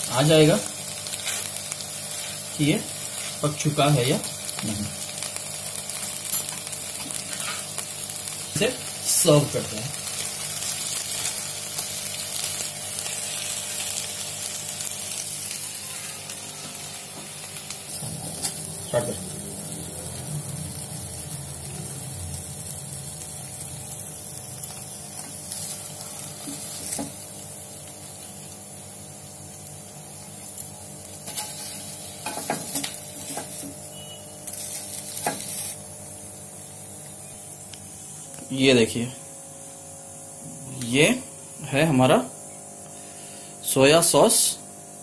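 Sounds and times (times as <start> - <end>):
chicken sizzling in a pan: 0.0 - 45.0.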